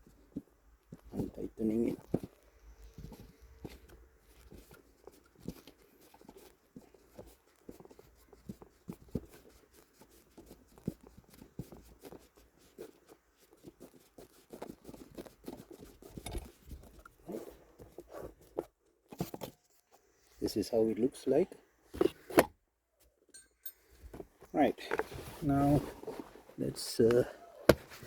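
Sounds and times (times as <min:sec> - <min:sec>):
handling clicks taps and rustles: 0:00.0 - 0:19.8, 0:21.0 - 0:28.0.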